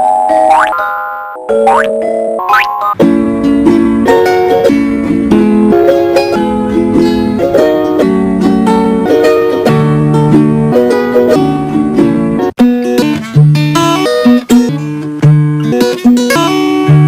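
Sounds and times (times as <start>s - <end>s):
upbeat ukulele music: 0.5s - 17.0s.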